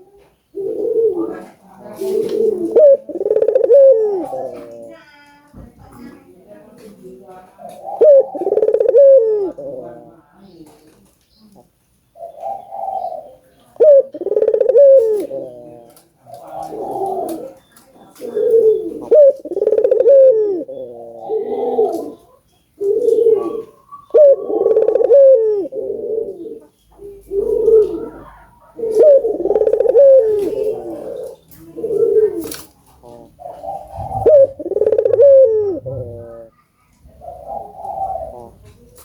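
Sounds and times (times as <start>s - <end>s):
dove cooing: 0.0s - 11.6s, 12.2s - 39.0s.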